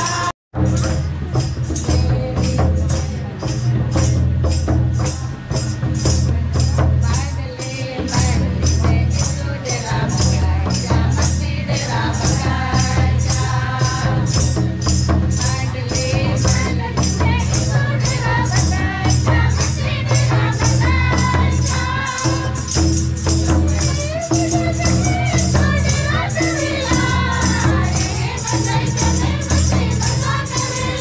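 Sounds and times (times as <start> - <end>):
women singing a hymn: 0.0 - 0.3, 1.9 - 3.8, 6.1 - 31.0
barrel drum beat: 0.0 - 31.0.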